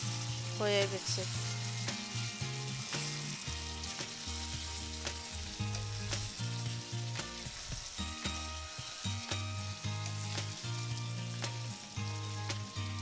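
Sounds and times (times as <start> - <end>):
chicken sizzling in oil: 0.0 - 13.0
soft background music bass: 0.0 - 13.0.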